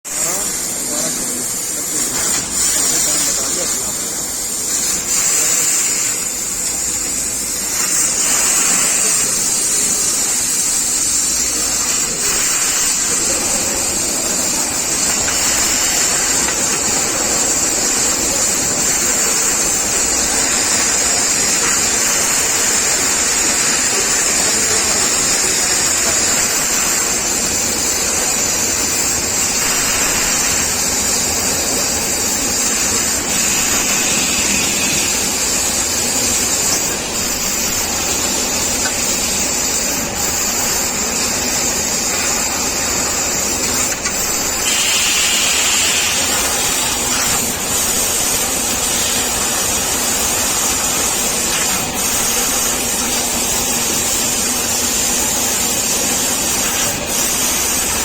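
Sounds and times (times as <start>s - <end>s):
laser cutting machine running: 0.1s - 58.0s
rushing hiss of air: 0.2s - 58.0s.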